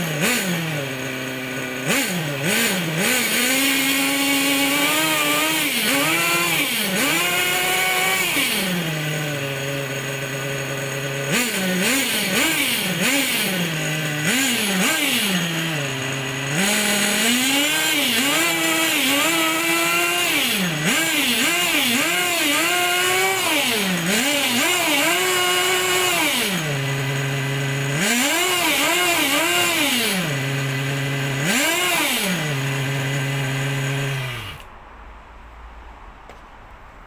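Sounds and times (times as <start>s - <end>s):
small engine revving: 0.0s - 34.7s.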